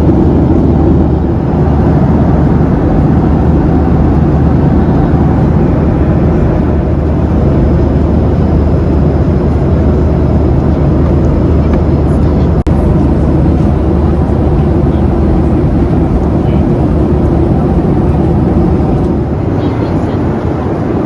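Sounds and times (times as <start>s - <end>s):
airliner cabin noise: 0.0s - 21.0s.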